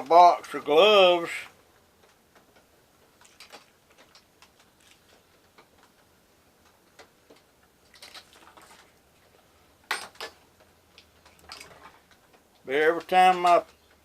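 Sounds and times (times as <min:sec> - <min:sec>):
small clicks and taps of handling: 0:01.8 - 0:09.4, 0:10.2 - 0:14.0.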